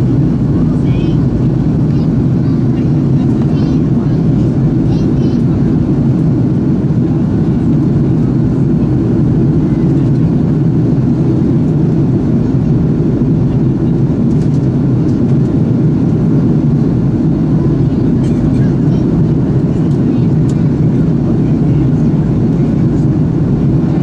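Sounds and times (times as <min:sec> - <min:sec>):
jet engine cabin rumble: 0:00.0 - 0:24.0.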